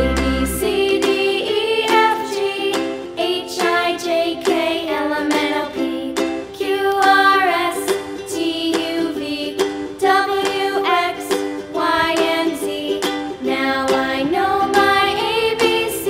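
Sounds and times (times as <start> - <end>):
children's rhyme sung over a beat: 0.0 - 16.0.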